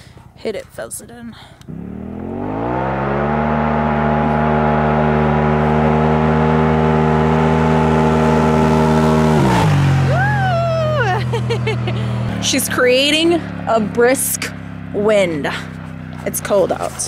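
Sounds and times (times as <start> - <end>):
engine revving at full throttle: 1.6 - 17.0.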